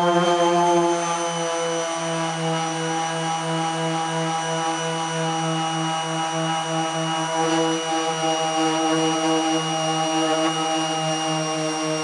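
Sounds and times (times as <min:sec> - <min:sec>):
orbital sander running: 0:00.0 - 0:12.0.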